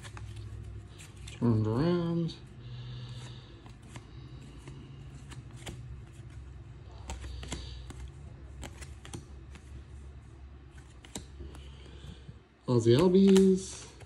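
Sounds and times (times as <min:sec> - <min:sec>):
trading cards flipped by hand: 0:00.0 - 0:01.6, 0:03.0 - 0:14.0.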